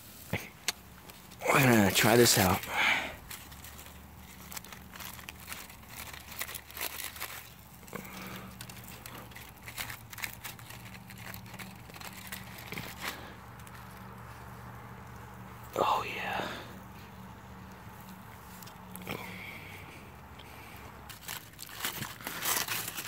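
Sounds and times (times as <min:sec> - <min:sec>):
aluminium foil crinkling: 0:00.0 - 0:23.0
faint low hum: 0:00.0 - 0:23.0.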